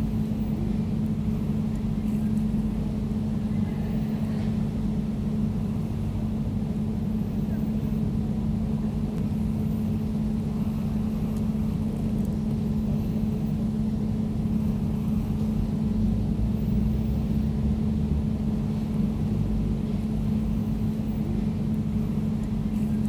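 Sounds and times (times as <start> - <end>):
air conditioner running: 0.0 - 23.0.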